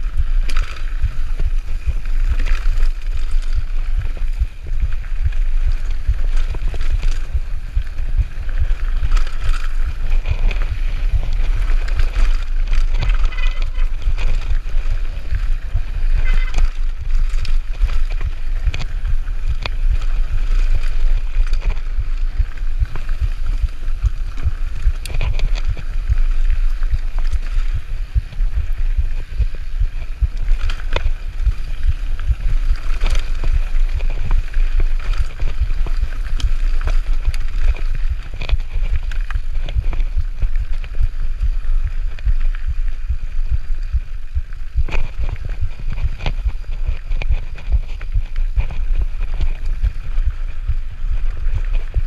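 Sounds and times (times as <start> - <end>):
bike clicking and rattling: 0.0 - 52.0
tyres rumbling on dirt: 0.0 - 52.0
wind on microphone: 0.0 - 52.0.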